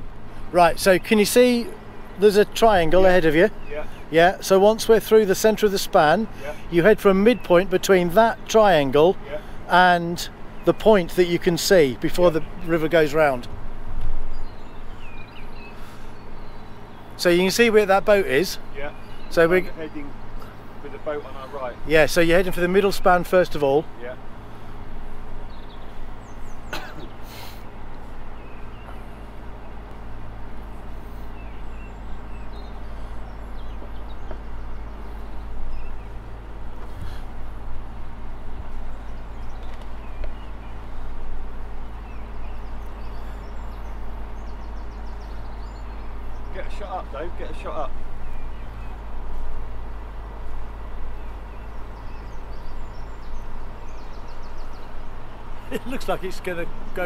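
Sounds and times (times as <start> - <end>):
boat engine droning: 0.0 - 57.0
wind and water hiss: 0.0 - 57.0.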